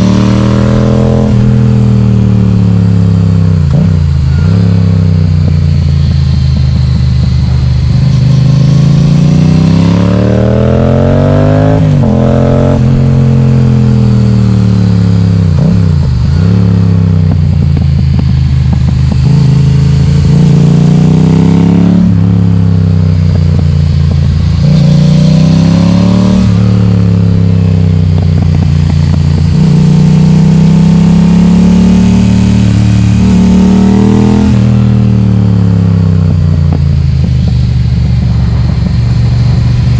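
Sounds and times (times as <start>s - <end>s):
loud motorcycle engine accelerating: 0.0s - 39.9s.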